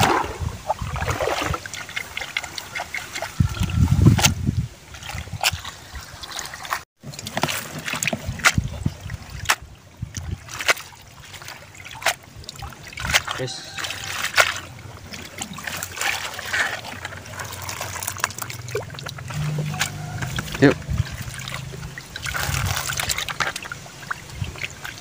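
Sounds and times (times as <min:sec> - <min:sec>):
water splashing and dripping: 0:00.0 - 0:25.0.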